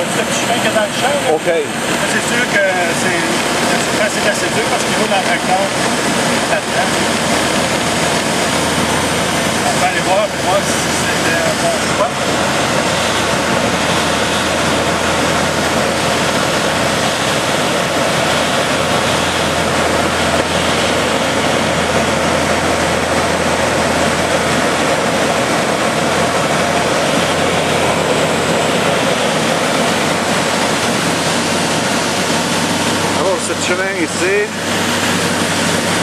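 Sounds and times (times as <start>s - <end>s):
rush of air: 1.7s - 36.0s.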